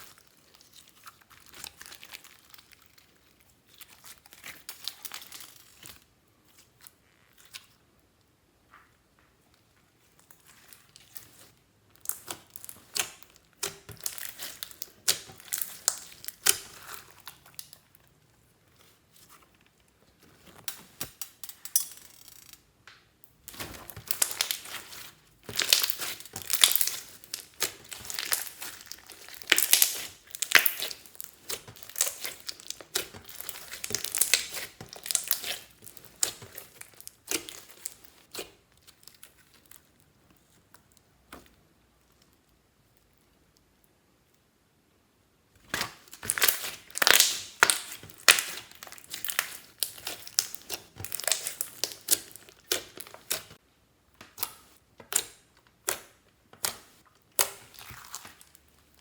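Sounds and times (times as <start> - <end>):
slime squelching by hand: 0.0 - 7.8, 9.9 - 21.2, 23.3 - 43.0, 45.6 - 59.0.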